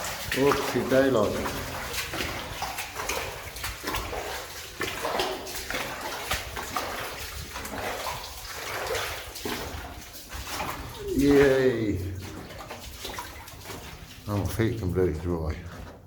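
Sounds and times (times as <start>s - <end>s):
boots wading through water: 0.0s - 16.0s.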